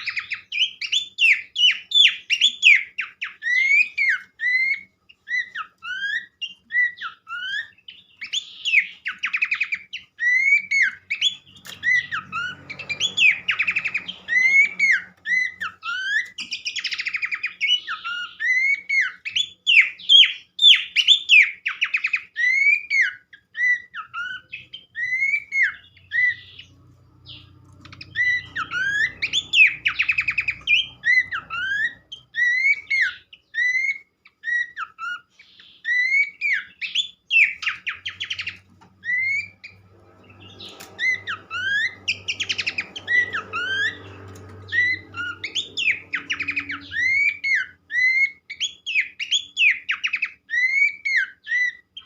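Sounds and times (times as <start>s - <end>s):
bird song recording: 0.0s - 52.0s.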